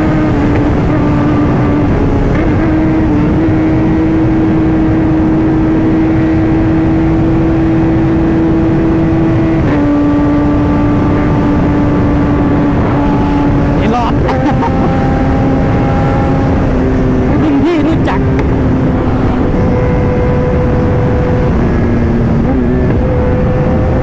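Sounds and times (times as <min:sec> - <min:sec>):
heavy wind noise: 0:00.0 - 0:24.0
motorcycle engine at high revs: 0:00.0 - 0:24.0.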